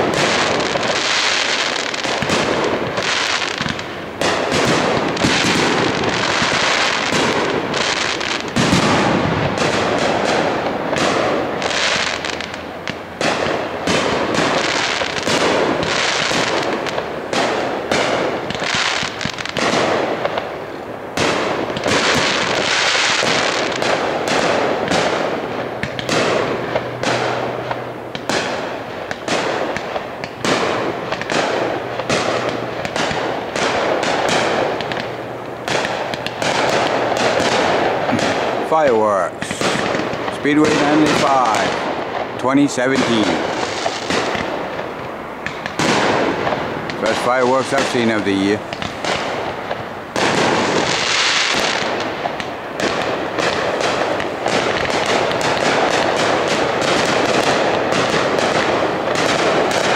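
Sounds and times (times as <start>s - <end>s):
firework bangs and crackling: 0.0s - 59.9s.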